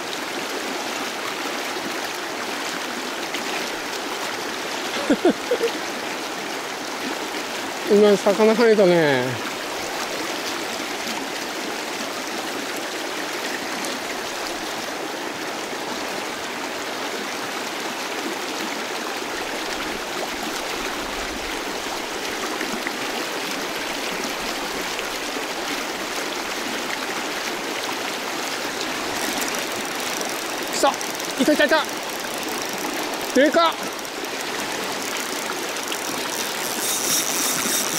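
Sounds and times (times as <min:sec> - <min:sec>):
river rapids rushing over stones: 0:00.0 - 0:37.9.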